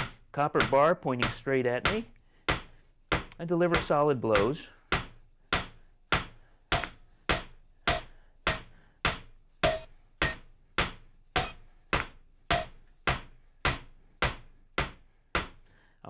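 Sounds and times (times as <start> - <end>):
hammer striking metal on anvil: 0.0 - 15.9.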